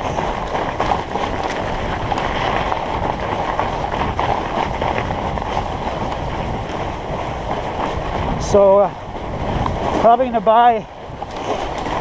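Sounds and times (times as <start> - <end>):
bike tyres rolling on snow: 0.0 - 12.0
wind noise on microphone: 0.0 - 12.0.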